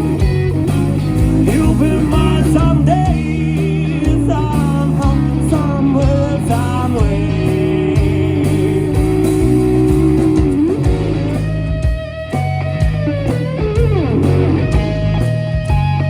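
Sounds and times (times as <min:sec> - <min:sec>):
bass guitar: 0:00.0 - 0:16.0
drums: 0:00.0 - 0:16.0
lead electric guitar: 0:00.0 - 0:16.0.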